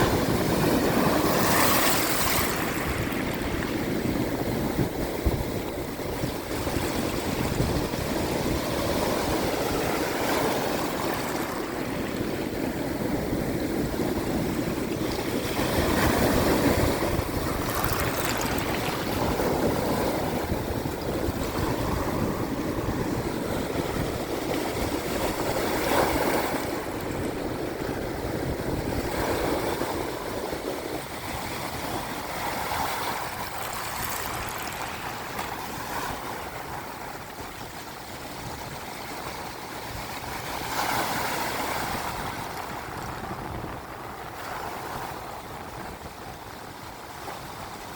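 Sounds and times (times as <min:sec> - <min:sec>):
small waves washing over shells: 0:00.2 - 0:23.2, 0:23.9 - 0:29.9, 0:31.4 - 0:37.6, 0:40.5 - 0:45.0.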